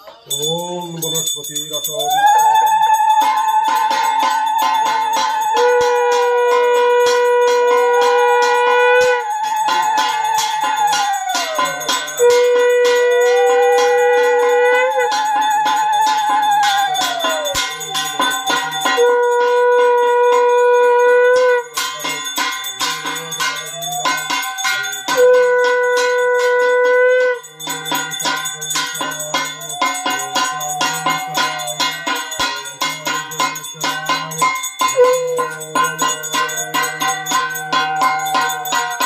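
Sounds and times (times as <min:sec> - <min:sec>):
handheld bell ringing rapidly: 0:00.0 - 0:39.0
conch shell blowing: 0:02.0 - 0:39.0.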